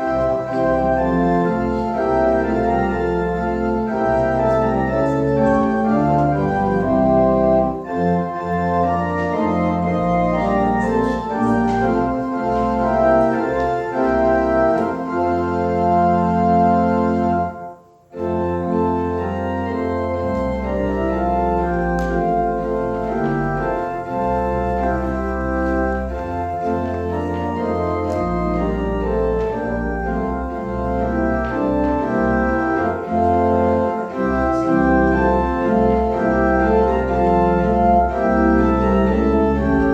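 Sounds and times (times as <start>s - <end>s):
organ playing chords: 0.0s - 39.9s.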